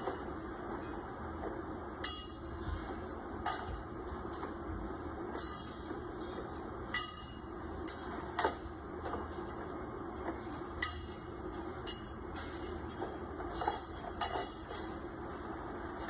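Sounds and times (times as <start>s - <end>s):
warehouse machinery humming: 0.0s - 16.0s.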